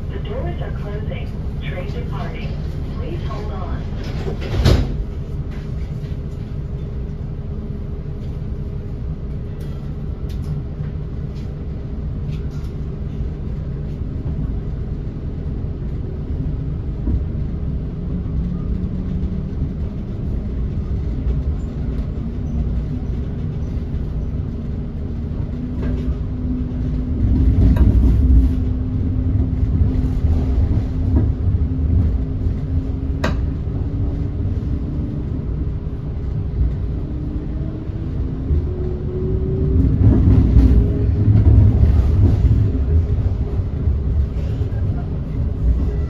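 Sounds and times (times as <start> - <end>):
train wheels rumbling: 0.0 - 46.0.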